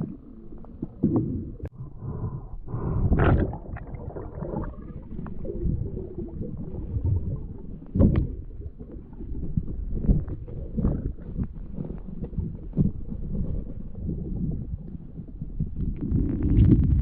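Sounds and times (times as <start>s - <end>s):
water churning and gurgling: 0.0s - 17.0s.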